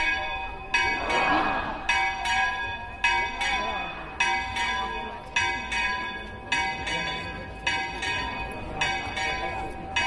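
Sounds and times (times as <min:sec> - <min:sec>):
church bells ringing: 0:00.0 - 0:10.0.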